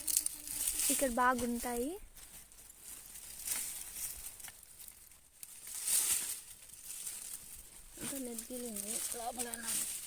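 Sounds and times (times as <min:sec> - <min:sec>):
rustling and crunching dry soil: 0:00.0 - 0:10.0.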